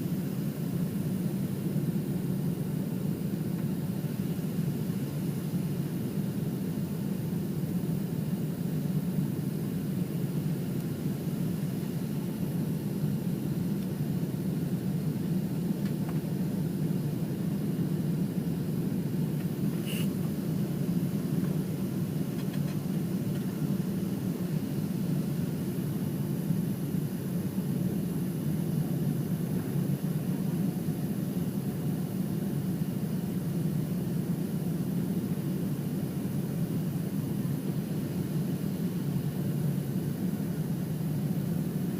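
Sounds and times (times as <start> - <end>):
airliner engine roar in cabin: 0.0 - 41.9.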